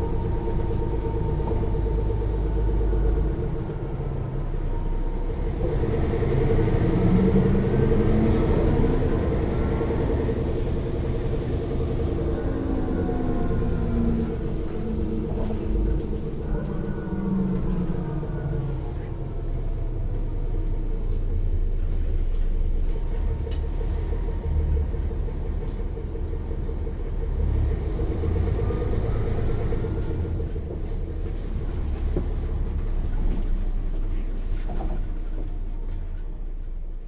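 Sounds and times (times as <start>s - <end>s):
bus axle whine: 0.0s - 37.0s
bus diesel engine rumbling: 0.0s - 37.0s.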